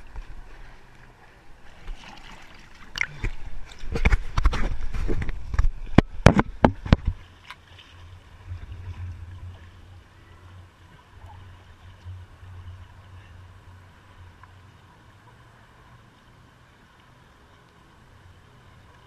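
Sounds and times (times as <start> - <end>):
pool water splashing: 0.0 - 19.0
water lapping rumble: 0.0 - 19.0.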